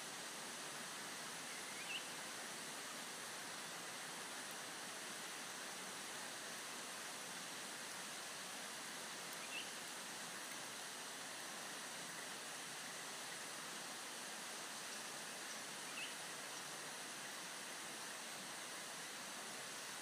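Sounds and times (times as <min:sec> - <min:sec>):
forest background hiss: 0:00.0 - 0:20.0.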